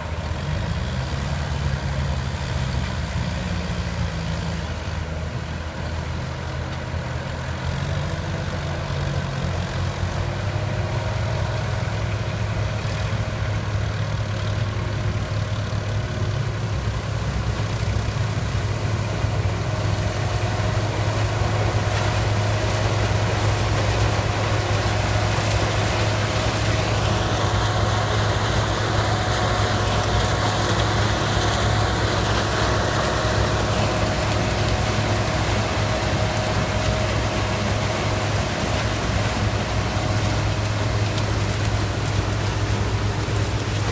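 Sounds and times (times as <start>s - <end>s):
heavy diesel engine humming: 0.0s - 43.9s.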